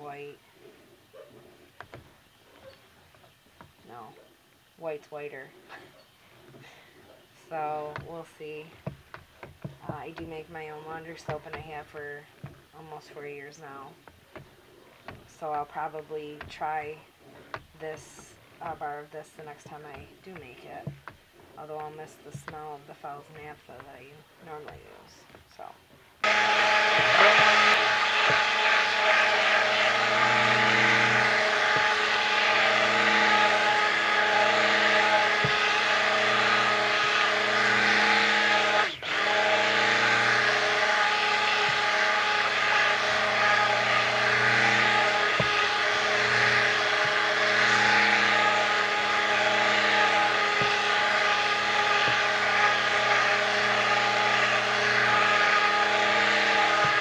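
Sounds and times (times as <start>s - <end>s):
stick blender motor whining: 0.0s - 57.0s.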